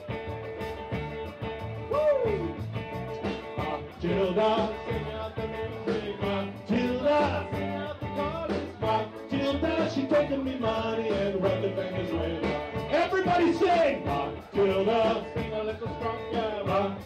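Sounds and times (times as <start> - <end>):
calypso band playing: 0.0 - 17.0.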